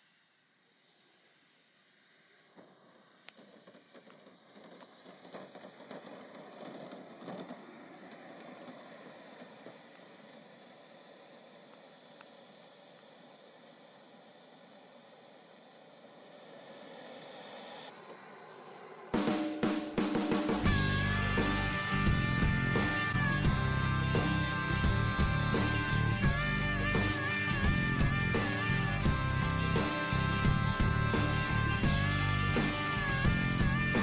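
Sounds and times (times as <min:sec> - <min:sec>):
jet turbine whine: 0:00.0 - 0:34.0
rush of exhaust: 0:02.4 - 0:34.0.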